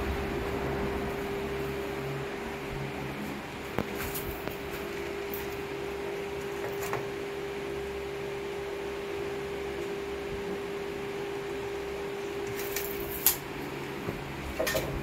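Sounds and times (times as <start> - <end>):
steady tonal hum: 0.0 - 15.0.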